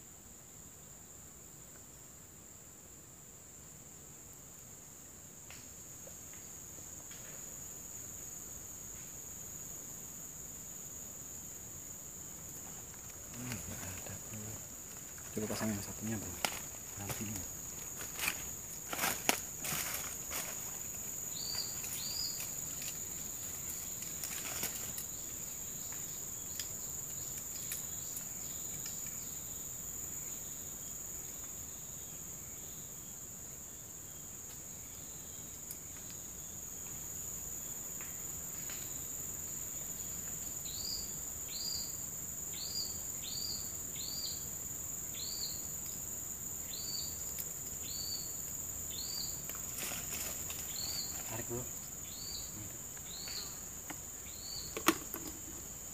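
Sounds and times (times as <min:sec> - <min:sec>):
high-pitched insect drone: 0:07.2 - 0:32.8, 0:34.1 - 0:55.9.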